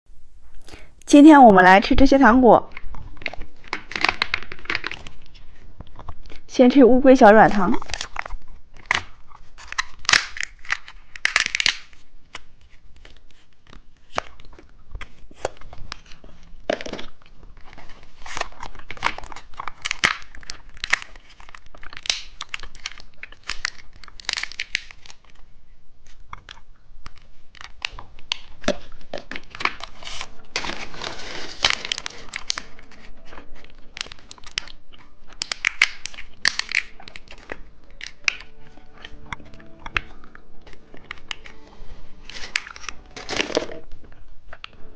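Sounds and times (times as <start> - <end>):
plastic wrappers crinkling: 2.8 - 6.5, 7.7 - 25.5, 27.0 - 44.8.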